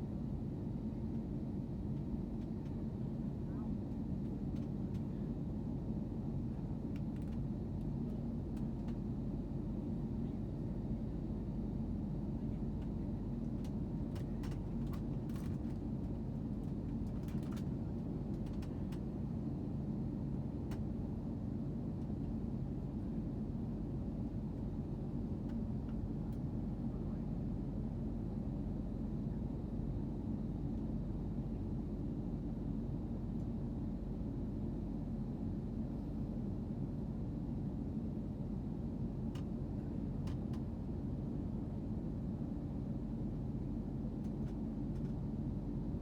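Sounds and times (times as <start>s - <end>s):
low rumble of engines and airflow: 0.0s - 46.0s.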